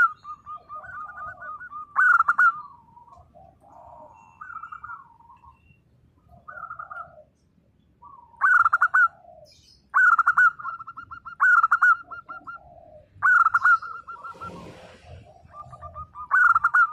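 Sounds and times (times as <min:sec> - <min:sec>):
dove cooing: 0:00.0 - 0:07.4, 0:08.0 - 0:16.9.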